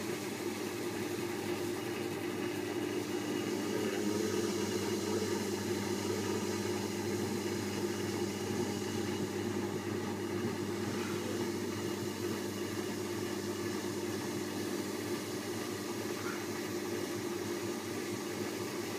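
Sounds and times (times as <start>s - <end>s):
wet grinder motor humming: 0.0s - 18.9s.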